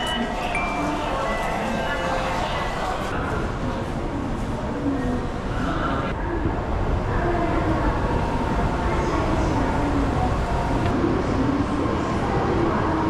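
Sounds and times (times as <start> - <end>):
indistinct voices: 0.0 - 13.0
low rumble of trains and machinery: 0.0 - 13.0.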